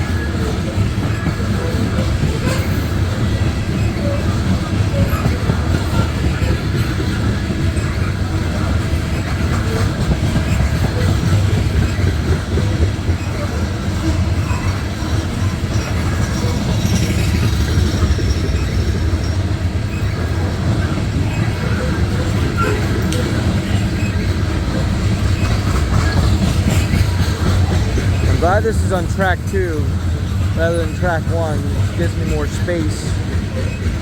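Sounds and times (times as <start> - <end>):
freight train rumbling past: 0.0 - 34.0
wheels clicking on rails: 0.0 - 34.0.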